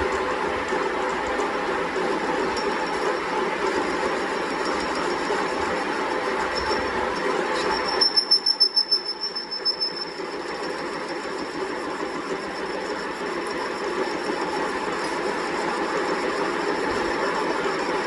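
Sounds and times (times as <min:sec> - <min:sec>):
high machine whine: 0:00.0 - 0:18.0
workshop machine running: 0:00.0 - 0:18.0.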